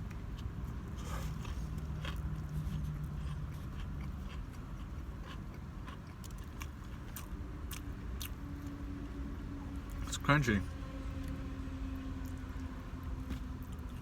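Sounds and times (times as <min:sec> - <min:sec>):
crunchy sandwich chewing: 0:00.0 - 0:09.0, 0:11.1 - 0:14.0.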